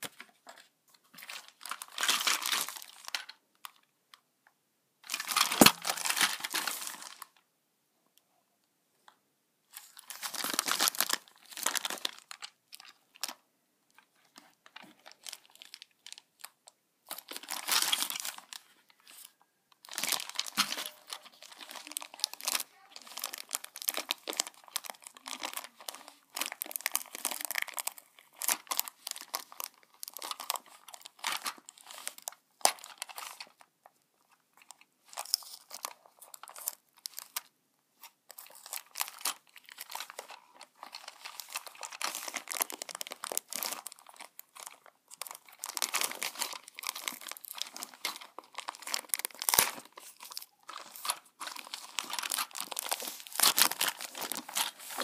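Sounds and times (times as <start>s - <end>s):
plastic packaging crinkling: 0.0s - 3.9s, 5.0s - 7.4s, 9.7s - 55.0s.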